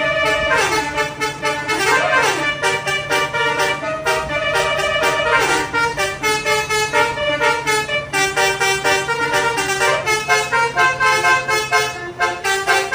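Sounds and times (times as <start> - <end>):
musical horn tooting melody: 0.0 - 12.9
steady low hum: 0.0 - 12.9.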